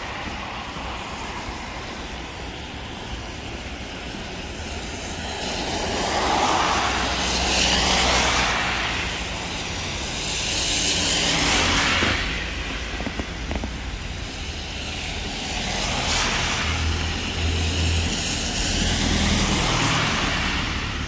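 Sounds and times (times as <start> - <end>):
road traffic rumble: 0.0 - 21.0
vehicles passing: 0.0 - 21.0.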